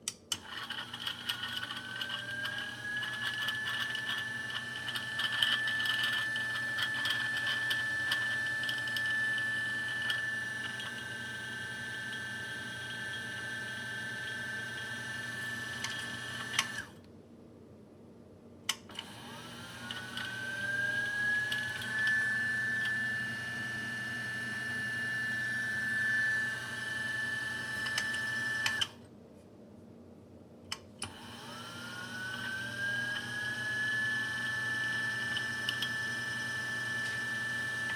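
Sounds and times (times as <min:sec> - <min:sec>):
coffee grinder motor whining: 0:00.4 - 0:17.0, 0:18.9 - 0:29.0, 0:31.0 - 0:37.9.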